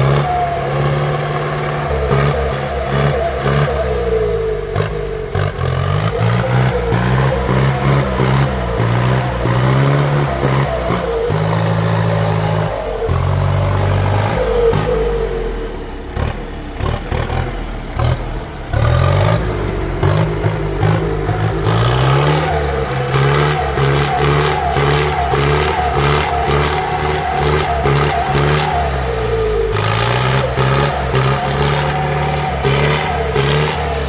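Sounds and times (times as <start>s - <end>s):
heavy diesel engines revving: 0.0s - 34.0s.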